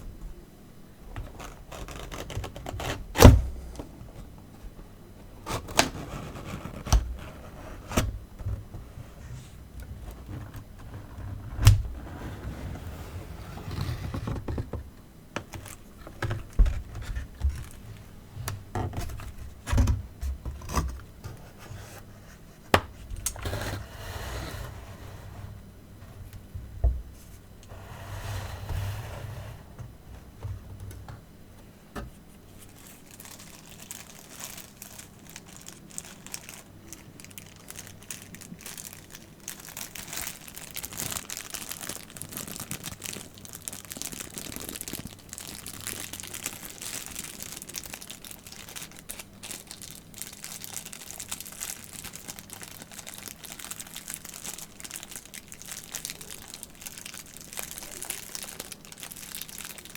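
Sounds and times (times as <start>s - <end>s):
packaging crinkling and rustling: 1.1s - 4.3s, 5.4s - 14.8s, 15.4s - 23.7s, 32.4s - 59.9s.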